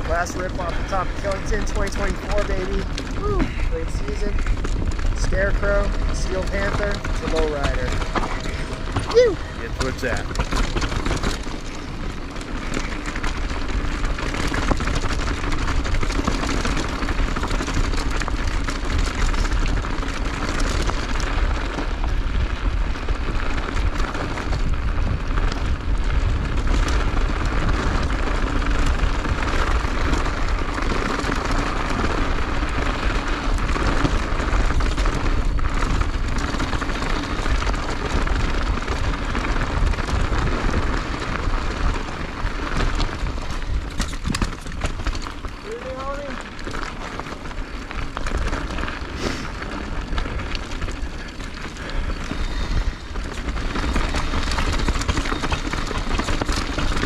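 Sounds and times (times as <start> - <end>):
skis scraping over snow: 0.0 - 57.0
wind buffeting microphone: 0.0 - 57.0.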